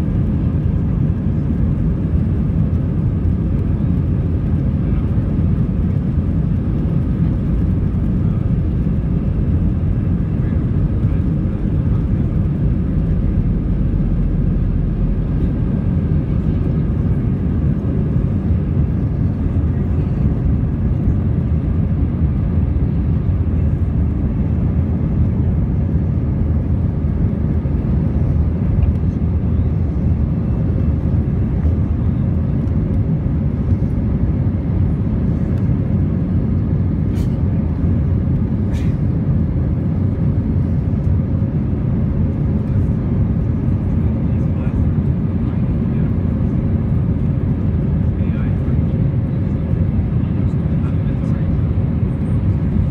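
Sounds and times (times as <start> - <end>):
jet engines roaring in cabin: 0.0 - 52.9.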